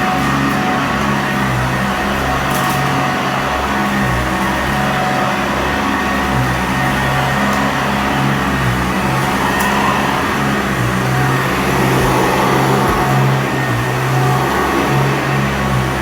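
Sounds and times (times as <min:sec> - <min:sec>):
vacuum cleaner on carpet: 0:00.0 - 0:16.0.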